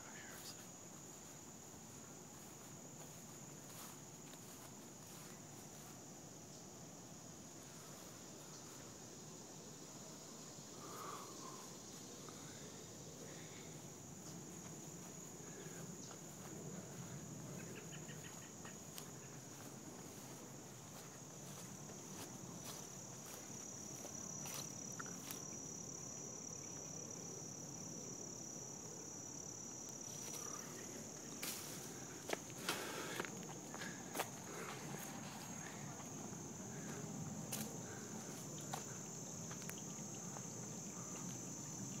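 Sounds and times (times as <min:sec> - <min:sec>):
insects chirping: 0:00.0 - 0:42.0.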